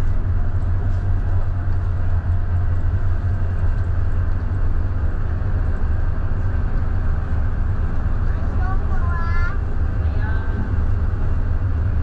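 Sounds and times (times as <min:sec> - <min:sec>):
bus diesel engine rumbling: 0:00.0 - 0:12.0
road noise: 0:00.0 - 0:12.0.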